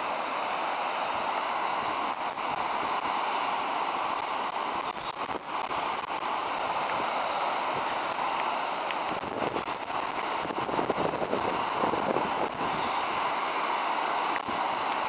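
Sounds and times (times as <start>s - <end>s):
muddy debris flow rushing: 0.0s - 15.0s.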